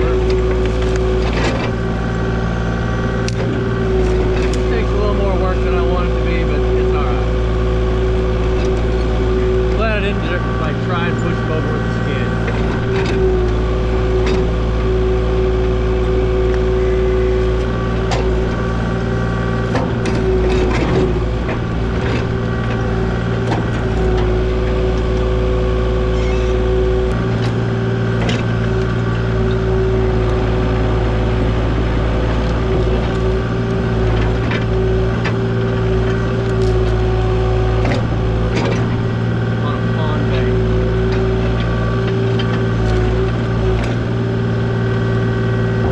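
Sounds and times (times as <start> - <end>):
excavator diesel engine: 0.0 - 45.9
hydraulic whine: 0.0 - 45.9.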